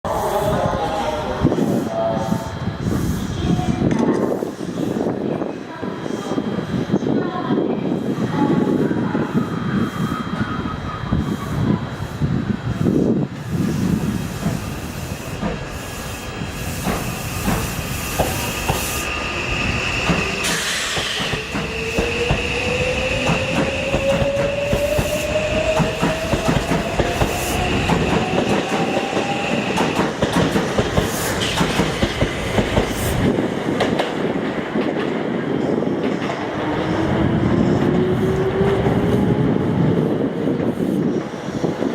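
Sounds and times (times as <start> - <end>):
electric train accelerating: 7.9 - 41.9.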